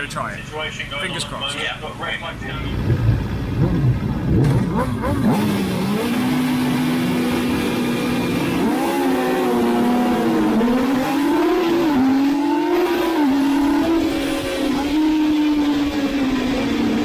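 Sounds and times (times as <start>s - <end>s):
race motorcycle engine: 1.2s - 17.0s.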